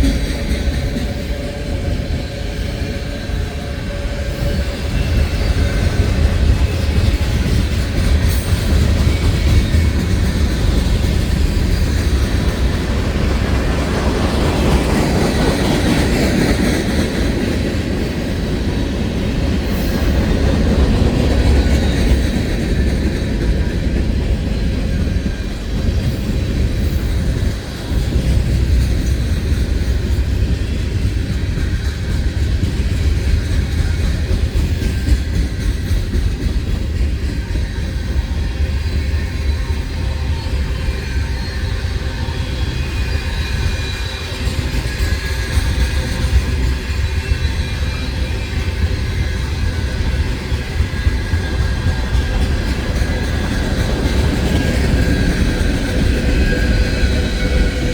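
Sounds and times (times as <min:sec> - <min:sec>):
freight train rolling by: 0:00.0 - 0:57.9.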